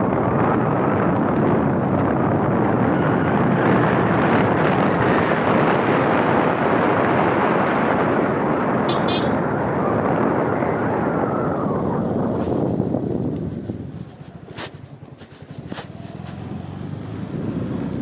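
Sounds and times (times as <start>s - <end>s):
rushing wind: 0.0s - 18.0s
vehicle road noise: 0.0s - 18.0s.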